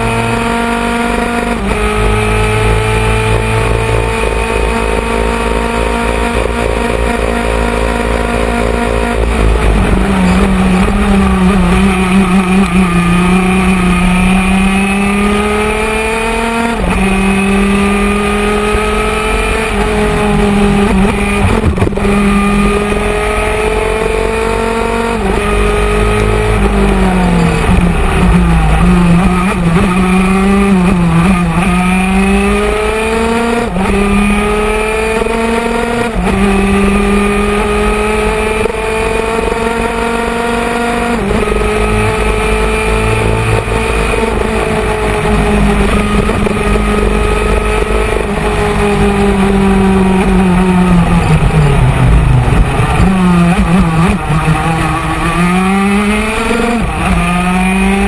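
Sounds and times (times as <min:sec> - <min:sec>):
two-stroke kart engine revving: 0:00.0 - 0:58.0.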